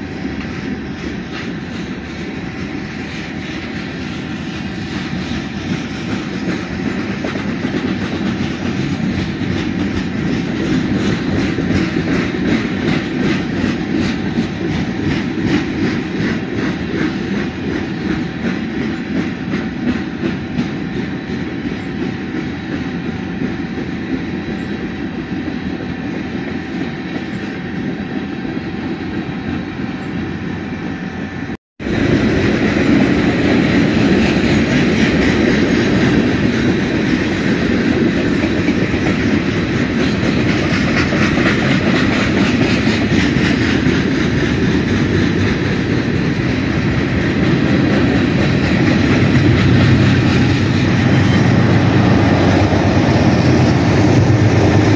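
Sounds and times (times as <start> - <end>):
diesel locomotive rumble: 0.0 - 54.9
train wheels clacking on rails: 0.0 - 54.9.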